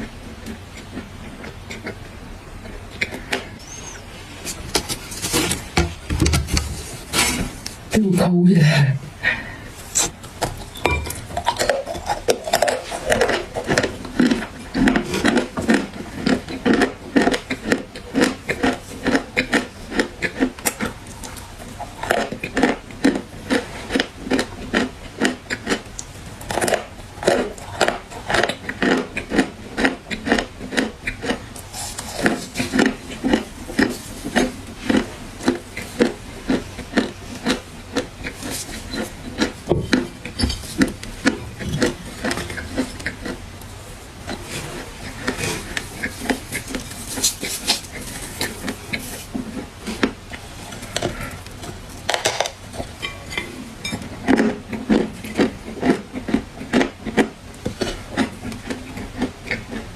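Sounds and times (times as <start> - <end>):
crunchy clay being chewed: 0.0 - 6.0, 9.9 - 59.9.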